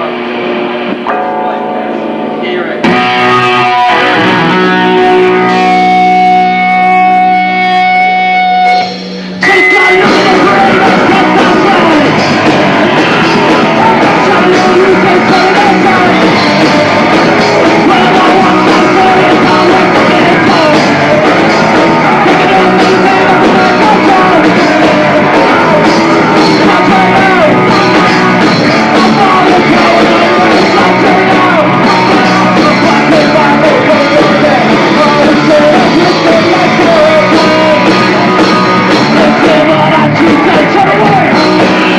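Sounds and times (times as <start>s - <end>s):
punk rock band playing live: 0.0s - 41.9s.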